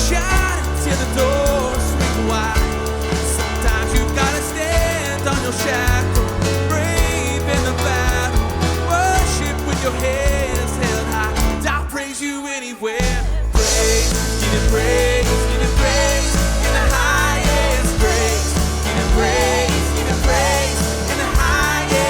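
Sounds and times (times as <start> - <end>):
bass guitar: 0.0 - 11.9, 13.0 - 22.0
drums: 0.0 - 22.0
people singing: 0.0 - 22.0
piano: 0.0 - 22.0.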